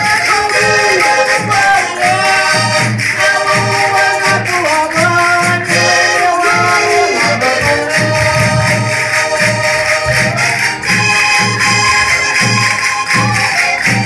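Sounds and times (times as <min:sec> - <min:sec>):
concertina playing lively tune: 0:00.0 - 0:14.0
jingling percussion: 0:00.0 - 0:14.0
percussion beat: 0:00.0 - 0:14.0.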